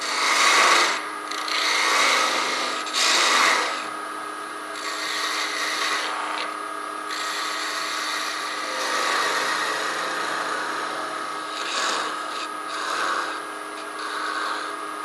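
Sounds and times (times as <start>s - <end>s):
tool scraping spinning wood: 0.0s - 4.0s, 4.7s - 15.0s
wood lathe humming: 0.0s - 15.0s.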